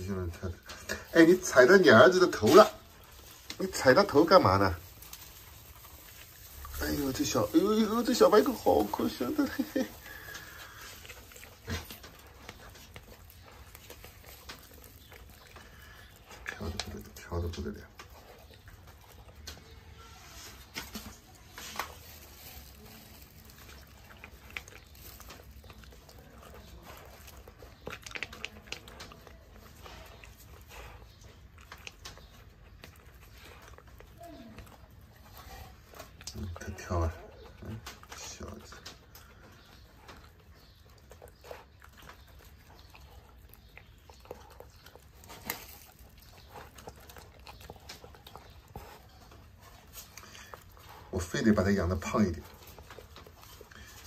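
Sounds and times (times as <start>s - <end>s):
dog chewing food: 0.0s - 54.0s.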